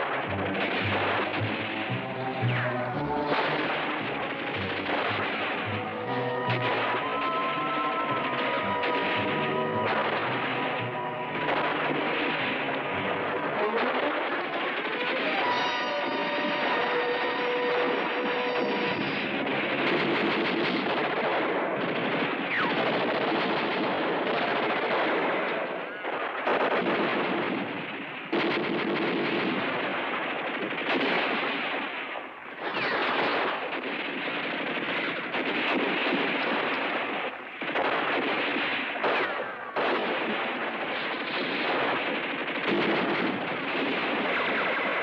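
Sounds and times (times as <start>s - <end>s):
machine-gun fire: 0.0s - 32.0s, 32.6s - 45.0s.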